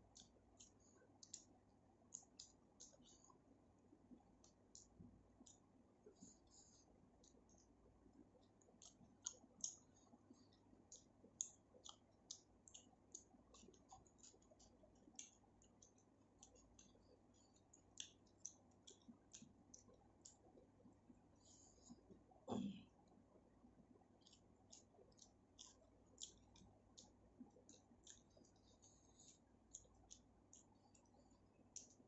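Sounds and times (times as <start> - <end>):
chewing mouth clicks and smacks: 0.0 - 5.6, 6.2 - 22.4, 23.9 - 32.0.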